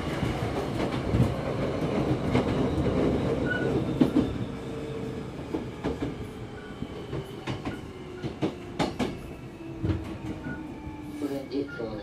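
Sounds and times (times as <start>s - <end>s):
electric train running hum: 0.0s - 12.0s.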